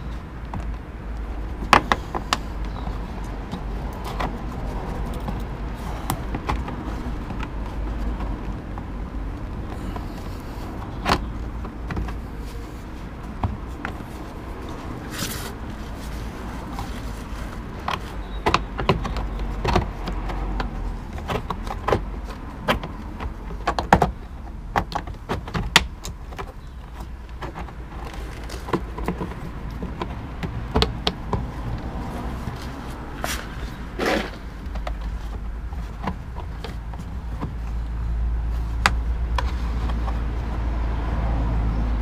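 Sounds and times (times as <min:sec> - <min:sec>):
plastic clicks knocks and scrapes: 0:00.4 - 0:12.4, 0:13.3 - 0:38.0.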